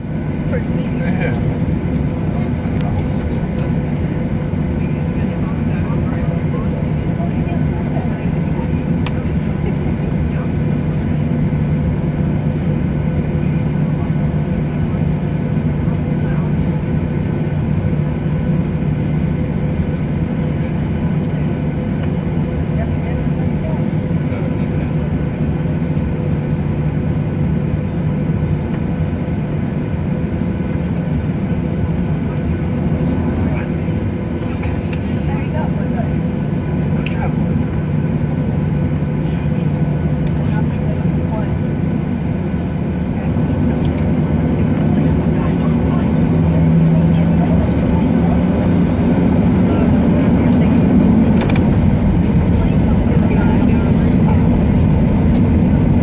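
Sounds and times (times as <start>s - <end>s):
jet engine cabin noise: 0.0s - 56.0s.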